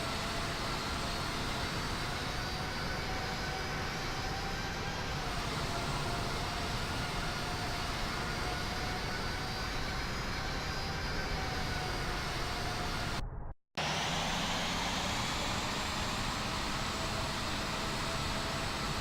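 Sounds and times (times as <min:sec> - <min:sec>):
jet engines running: 0:00.0 - 0:13.2, 0:13.8 - 0:19.0.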